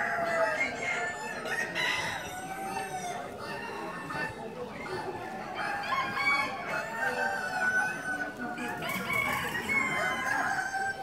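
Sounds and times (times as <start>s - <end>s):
roosters crowing: 0.0s - 4.0s, 5.0s - 11.0s
hens clucking: 0.0s - 11.0s.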